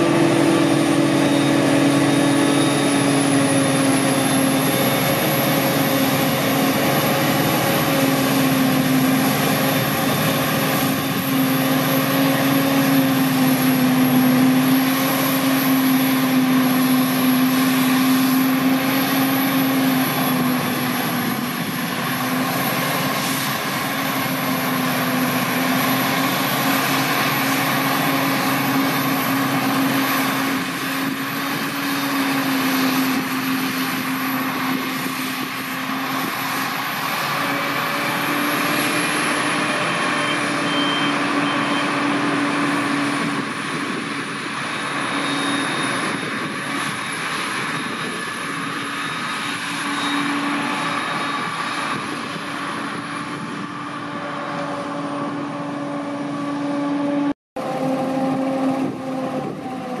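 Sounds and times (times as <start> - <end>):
forage harvester chopping with whine: 0.0 - 60.0
tractor engine: 0.0 - 60.0.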